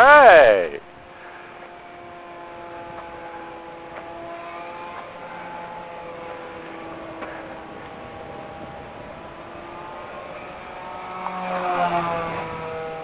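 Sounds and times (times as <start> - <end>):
model airplane motor humming: 0.8 - 13.0.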